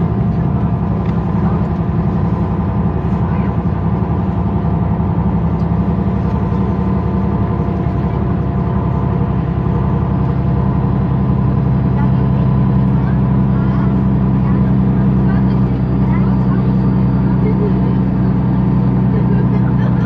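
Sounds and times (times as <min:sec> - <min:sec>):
bus diesel engine idling: 0:00.0 - 0:20.0.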